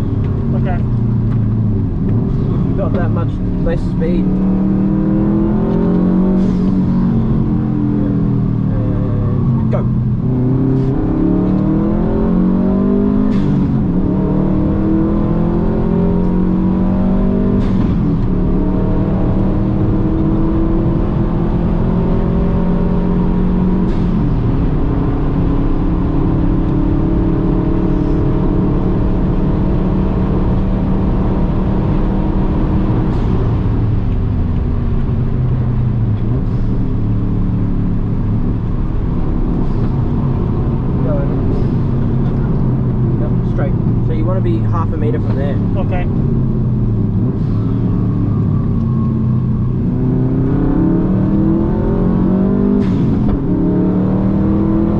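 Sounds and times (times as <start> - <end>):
car engine revving hard: 0.0 - 34.2, 35.3 - 54.9
road and wind noise: 0.0 - 54.9.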